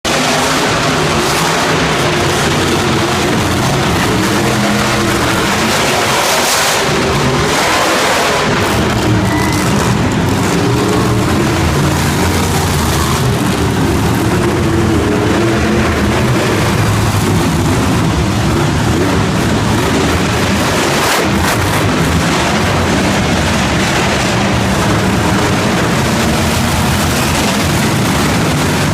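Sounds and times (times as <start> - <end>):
monster truck engines revving: 0.0 - 28.9.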